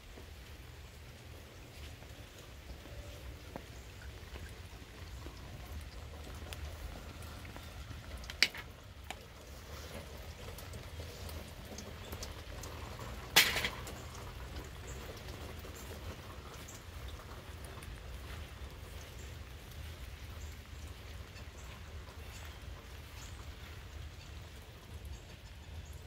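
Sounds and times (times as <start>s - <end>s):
light rain: 0.0s - 26.0s
drip ticks: 0.1s - 26.0s.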